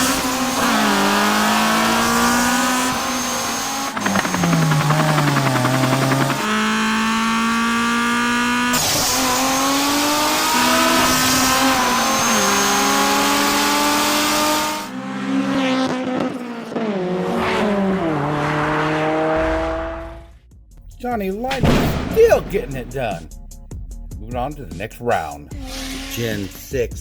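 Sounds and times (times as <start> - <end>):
race car engine revving: 0.0 - 20.4, 25.5 - 26.9.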